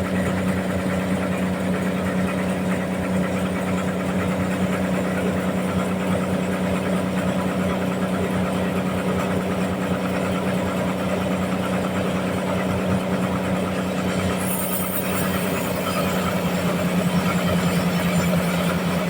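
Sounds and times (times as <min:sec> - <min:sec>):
sawmill machinery droning: 0:00.0 - 0:19.0.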